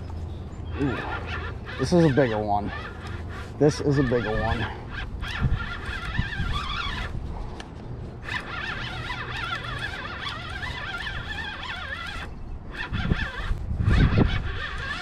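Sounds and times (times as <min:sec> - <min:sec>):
fishing reel whine: 0:00.0 - 0:07.3, 0:08.2 - 0:15.0
wind rumble: 0:00.0 - 0:15.0.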